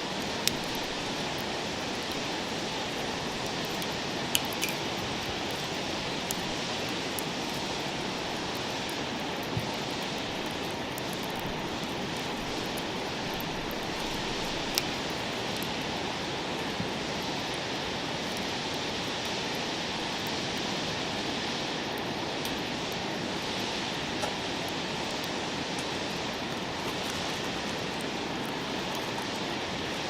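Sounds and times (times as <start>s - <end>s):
campfire hissing and crackling: 0.0s - 30.0s.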